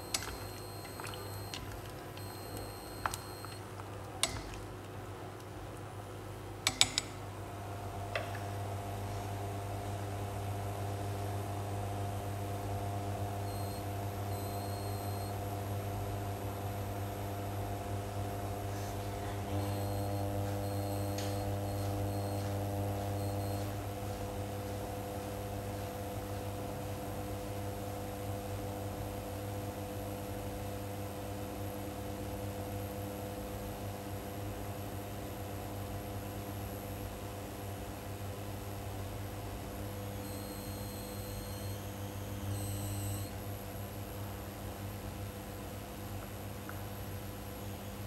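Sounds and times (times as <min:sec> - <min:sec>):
electric hob humming: 0:00.0 - 0:48.0.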